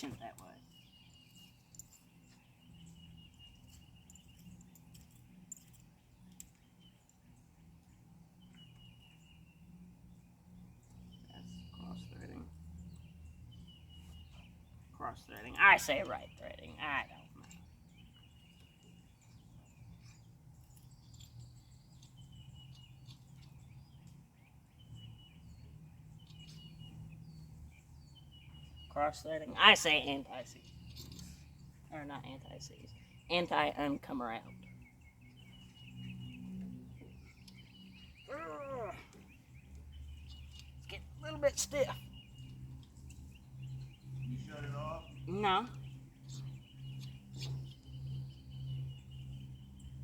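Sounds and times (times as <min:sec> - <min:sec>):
faint birdsong chirps and whistles: 0:00.0 - 0:50.0.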